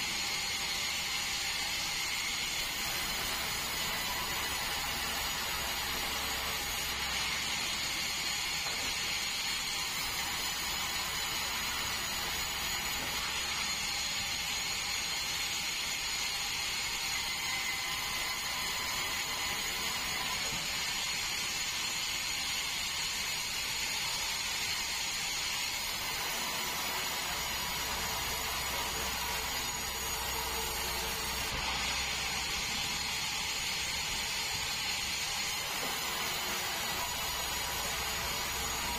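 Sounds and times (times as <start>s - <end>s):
band saw blade hiss and whine: 0.0s - 38.9s.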